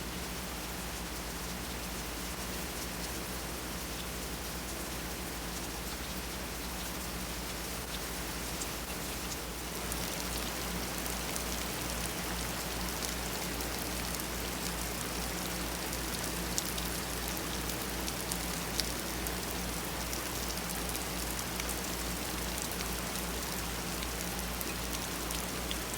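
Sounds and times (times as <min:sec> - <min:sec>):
steady rain: 0:00.0 - 0:25.9
raindrops ticking on a surface: 0:00.3 - 0:25.9.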